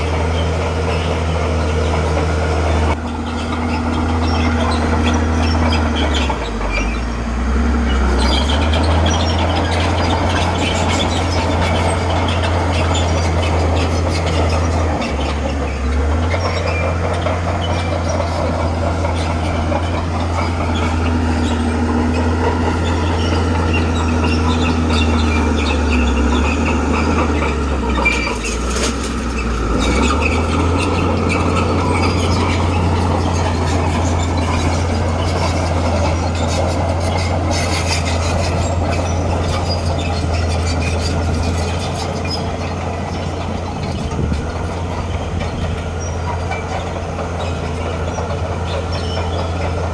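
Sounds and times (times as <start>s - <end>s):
bulldozer diesel engine droning: 0.0s - 49.9s
tracks squeaking and clattering: 0.0s - 49.9s.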